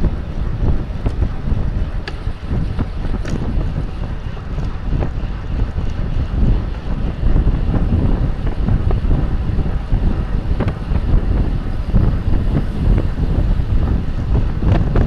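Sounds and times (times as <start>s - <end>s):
tyre noise on road: 0.0s - 15.0s
wind buffeting microphone: 0.0s - 15.0s.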